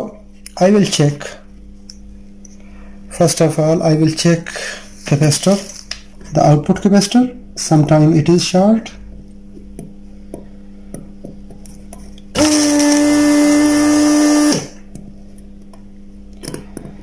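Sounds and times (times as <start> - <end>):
vacuum pump drone with air hiss: 0.0 - 17.0.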